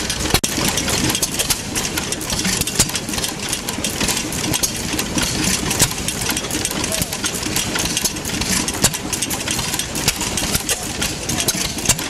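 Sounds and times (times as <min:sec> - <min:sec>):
gas engine running: 0:00.0 - 0:12.0
valve gear clicks and knocks: 0:00.0 - 0:12.0.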